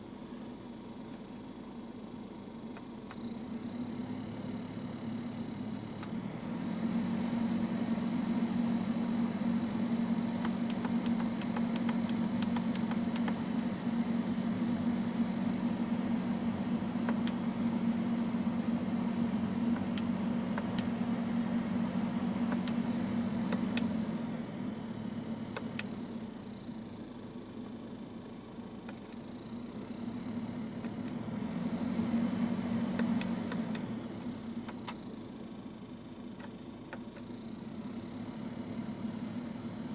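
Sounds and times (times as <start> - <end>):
car low drone: 1.9 - 36.0, 37.3 - 39.9.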